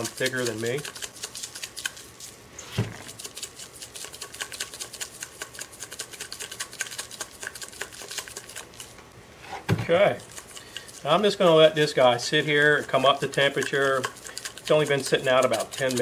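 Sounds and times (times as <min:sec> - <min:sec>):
seasoning shaker rattling: 0:00.0 - 0:02.4, 0:03.0 - 0:08.9, 0:10.2 - 0:16.0.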